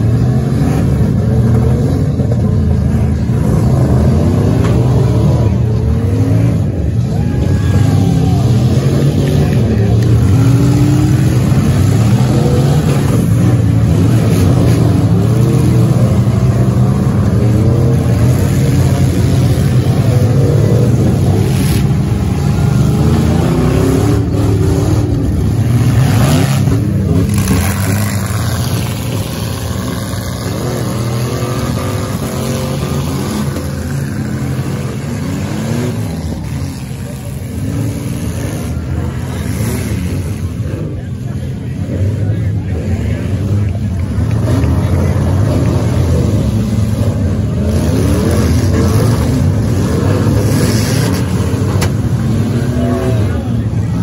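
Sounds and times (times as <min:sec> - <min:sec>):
engines revving together: 0:00.0 - 0:54.0.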